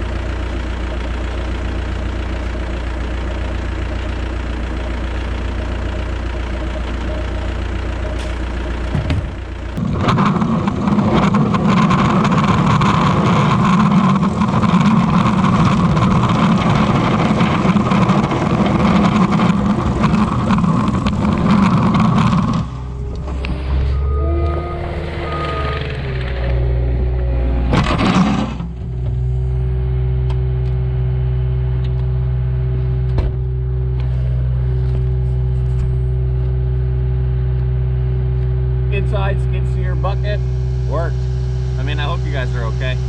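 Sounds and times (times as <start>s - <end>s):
diesel engine of heavy machine: 0.0s - 43.0s.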